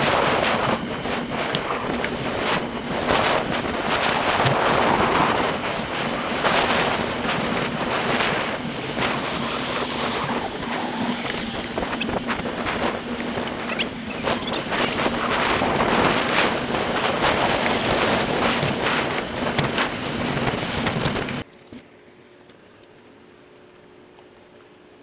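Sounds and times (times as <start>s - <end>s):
wind buffeting microphone: 0.0s - 21.4s
bike clicks and rattles: 0.0s - 23.4s.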